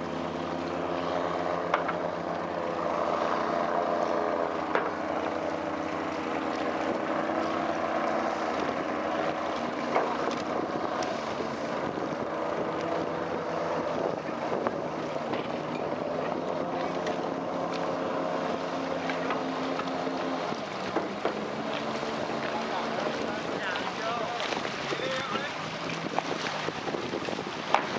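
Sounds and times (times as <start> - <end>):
speedboat engine humming: 0.0 - 27.9
water and wind hiss: 0.0 - 27.9.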